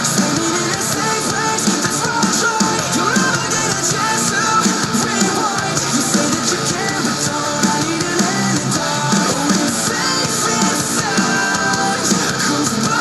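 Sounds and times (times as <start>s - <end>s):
metalcore song through small speaker: 0.0s - 13.0s.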